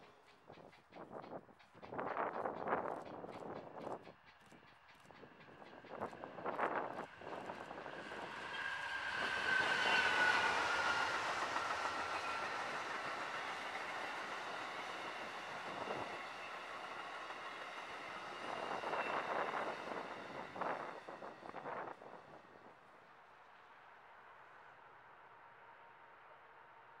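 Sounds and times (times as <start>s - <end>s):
passenger train passing: 0.0s - 27.0s.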